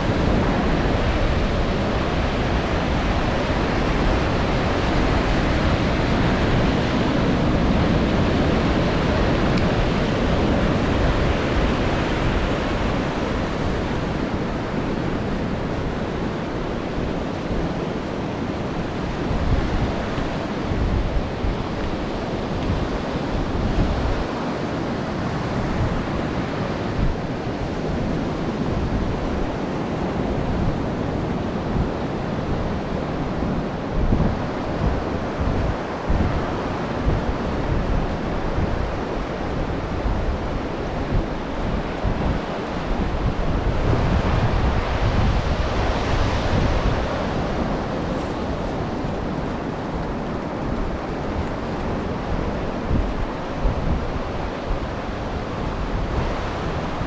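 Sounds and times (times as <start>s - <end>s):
ocean surf washing onto beach: 0.0s - 57.0s
wind buffeting microphone: 0.0s - 57.0s.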